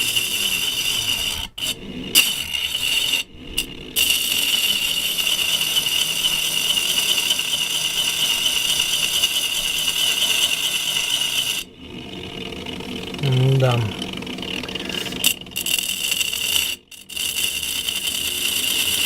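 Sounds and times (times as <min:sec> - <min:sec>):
angle grinder scraping metal: 0:00.0 - 0:19.0.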